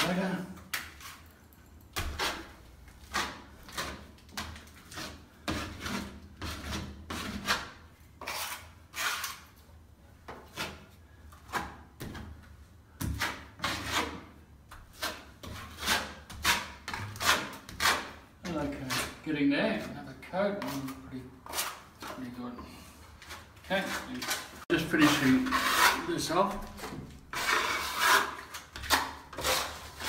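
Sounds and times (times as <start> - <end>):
knife scraping wet plaster: 0.7 - 9.7, 13.0 - 22.2, 23.2 - 30.0.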